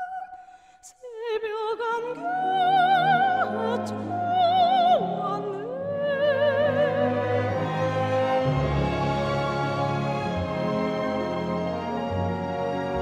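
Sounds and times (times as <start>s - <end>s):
operatic classical music: 1.3s - 13.0s.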